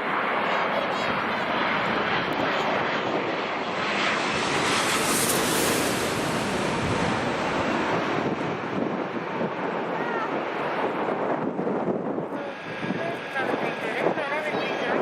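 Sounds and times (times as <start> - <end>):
jet engines passing overhead: 0.0 - 15.0.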